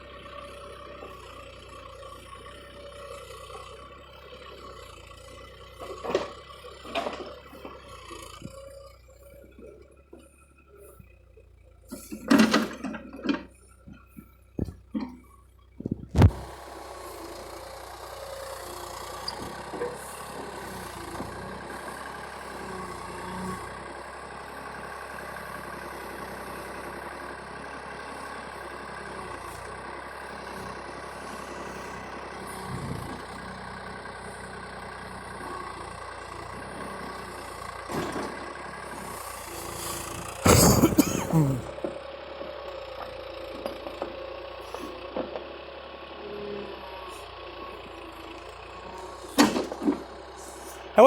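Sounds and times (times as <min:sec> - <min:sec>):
excavator engine running: 0:00.0 - 0:51.0.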